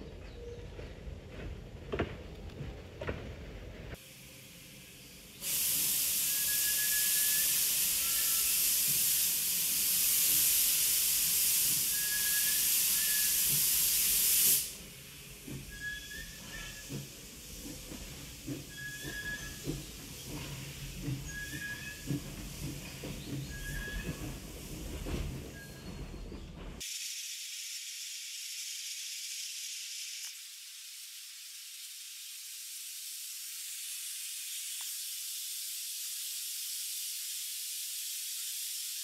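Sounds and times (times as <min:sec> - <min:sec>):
steam locomotive hissing: 0:02.6 - 0:39.0.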